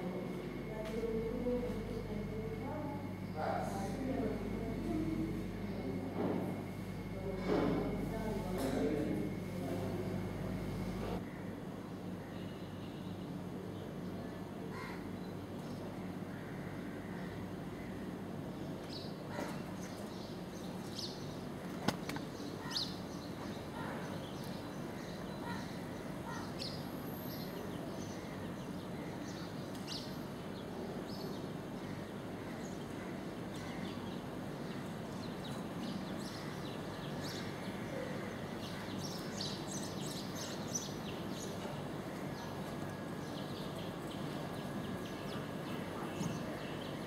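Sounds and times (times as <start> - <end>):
birds chirping: 0.0 - 11.2, 13.8 - 47.0
outdoor background noise: 0.0 - 47.0.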